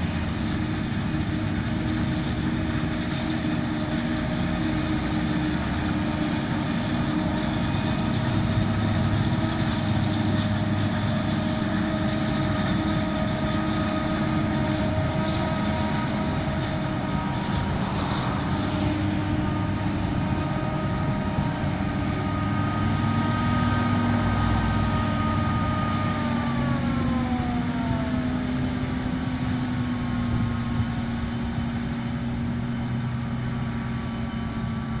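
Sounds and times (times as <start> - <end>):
tractor running: 0.0 - 35.0.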